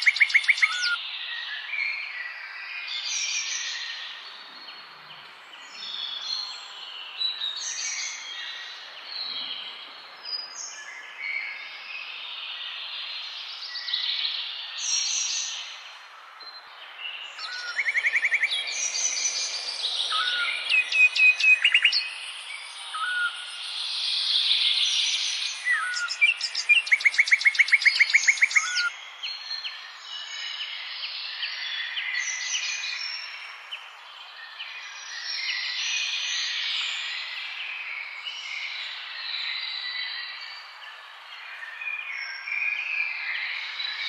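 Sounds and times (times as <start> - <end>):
songbirds chirping and singing: 0.0 - 44.0.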